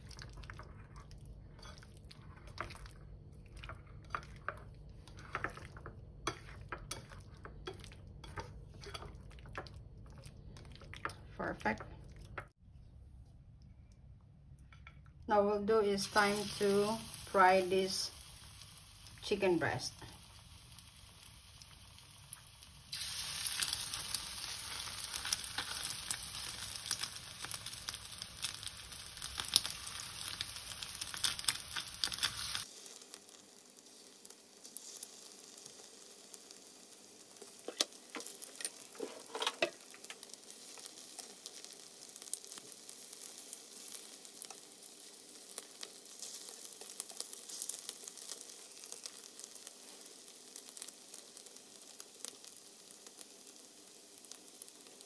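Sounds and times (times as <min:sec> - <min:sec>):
chicken sizzling in hot oil: 0:00.0 - 0:10.6, 0:15.8 - 0:55.0.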